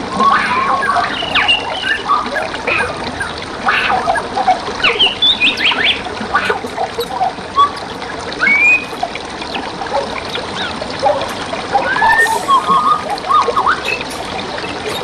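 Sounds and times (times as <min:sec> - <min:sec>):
stream water running: 0:00.0 - 0:15.0
birds chirping and whistling: 0:00.1 - 0:07.8, 0:08.4 - 0:15.0.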